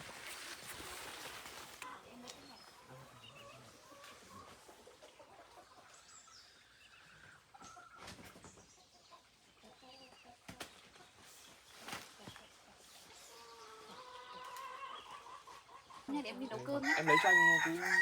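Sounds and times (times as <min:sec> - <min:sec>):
chickens clucking: 0:00.8 - 0:18.0.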